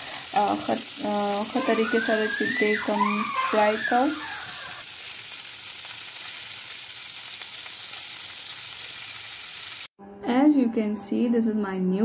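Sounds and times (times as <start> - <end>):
chicken wings sizzling in oil: 0.0 - 9.9.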